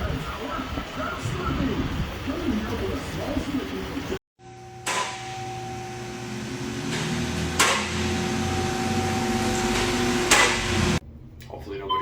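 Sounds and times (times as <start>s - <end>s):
mechanical hum with pitched tones: 0.0s - 12.0s.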